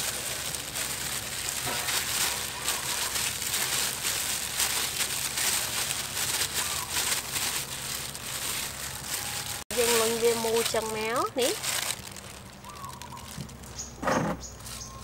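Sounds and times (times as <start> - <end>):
plastic gloves crinkling: 0.0 - 13.9.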